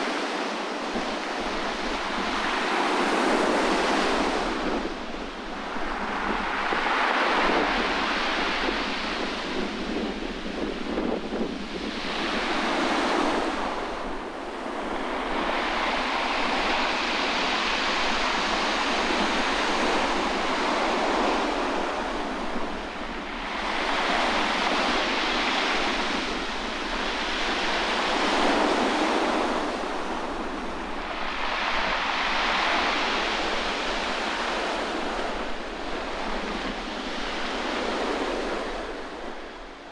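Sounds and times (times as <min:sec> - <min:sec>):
sea waves breaking on shore: 0:00.0 - 0:39.9
wind buffeting microphone: 0:00.0 - 0:39.9.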